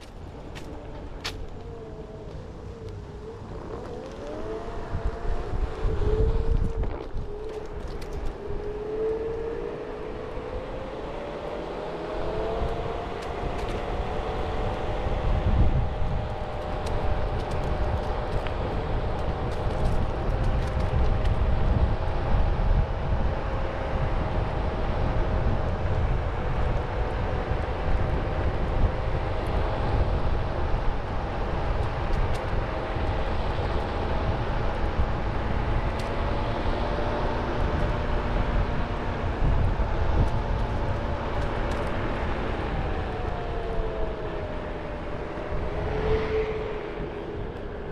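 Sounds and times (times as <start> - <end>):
tyre and wind rumble: 0.0 - 47.9.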